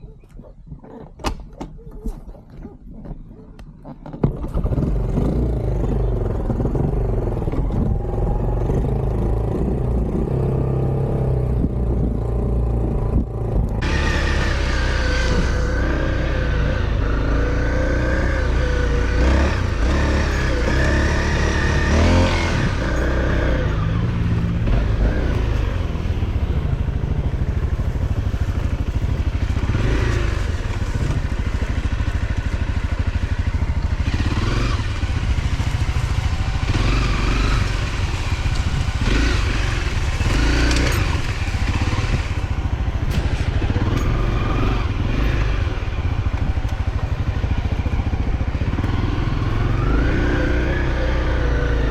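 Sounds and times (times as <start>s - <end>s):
motorcycle engine revving: 3.3s - 51.9s.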